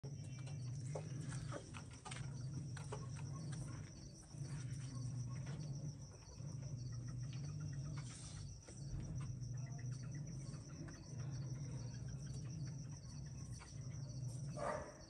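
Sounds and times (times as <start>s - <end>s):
crickets trilling: 0.0s - 15.0s
low hum: 0.0s - 15.0s.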